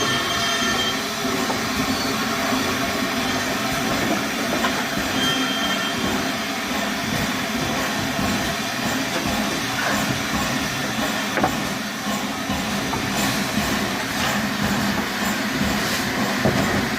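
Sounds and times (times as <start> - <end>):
train rumbling on track: 0.0 - 16.9.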